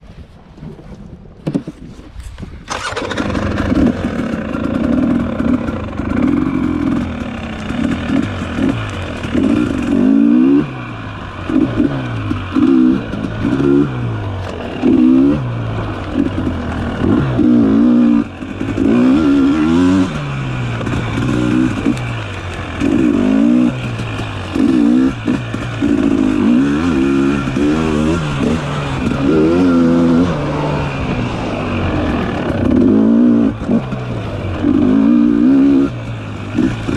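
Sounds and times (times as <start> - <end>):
dirt bike engine revving: 2.7 - 36.9.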